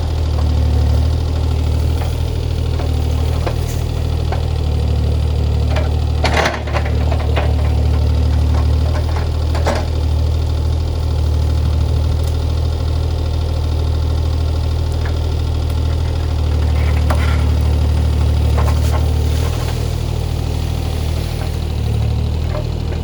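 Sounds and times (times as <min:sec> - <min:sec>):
excavator diesel engine running: 0:00.0 - 0:23.0
brush cracking and clanking: 0:00.1 - 0:23.0.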